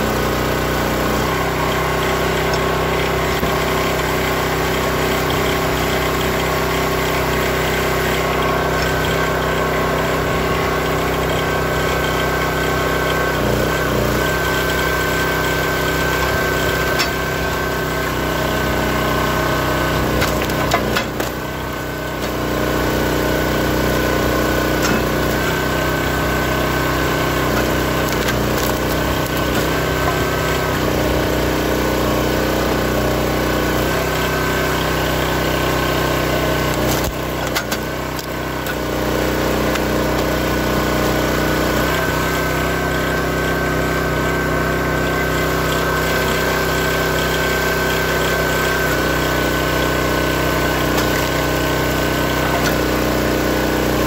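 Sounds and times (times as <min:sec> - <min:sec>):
wood splitting and falling: 0:00.0 - 0:11.5, 0:13.3 - 0:43.6, 0:45.7 - 0:54.0
small gas engine running: 0:00.0 - 0:54.0.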